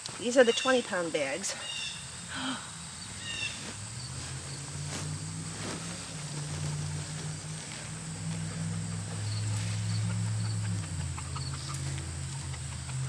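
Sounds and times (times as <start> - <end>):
continuous low hum: 0.0 - 13.0
insects trilling: 0.0 - 13.0.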